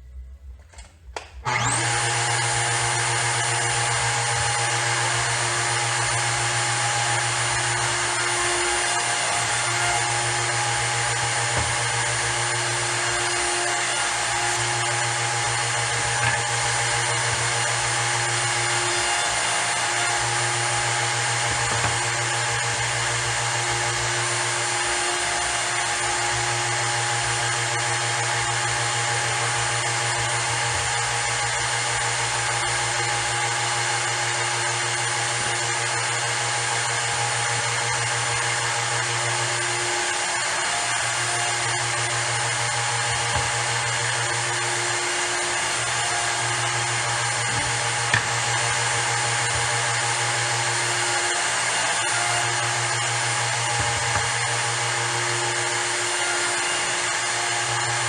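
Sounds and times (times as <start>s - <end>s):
router cutting wood: 1.2s - 58.0s.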